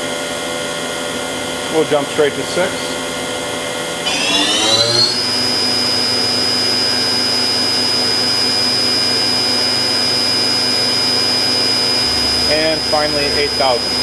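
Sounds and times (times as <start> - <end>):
machine spindle high whine: 1.1 - 14.0.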